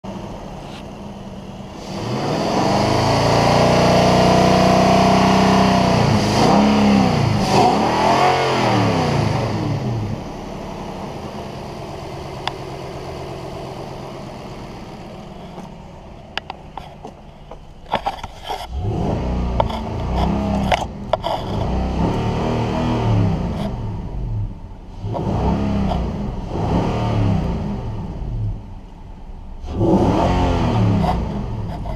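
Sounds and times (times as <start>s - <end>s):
truck engine idling and revving: 0.0s - 31.9s.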